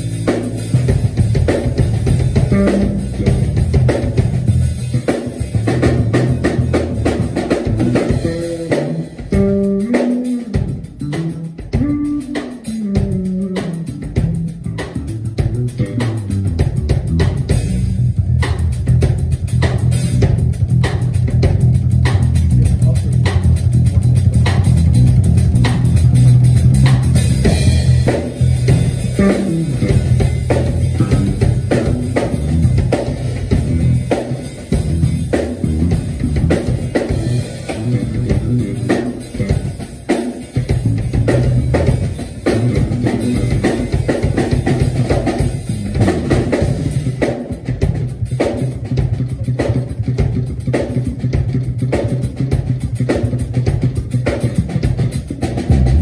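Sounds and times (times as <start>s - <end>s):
drum kit playing: 0.0s - 56.0s
electric bass line: 0.0s - 56.0s.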